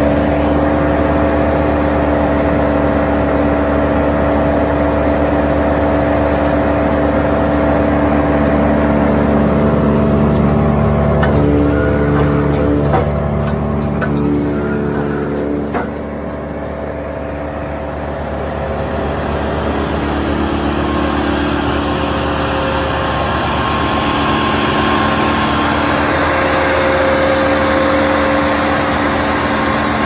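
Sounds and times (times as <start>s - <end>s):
brush chipper drone: 0.0s - 30.0s.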